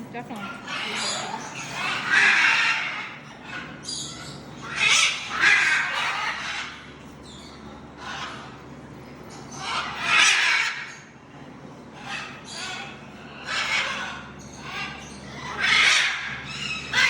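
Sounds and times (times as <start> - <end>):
parrots squawking: 0.2 - 11.2, 11.9 - 17.0.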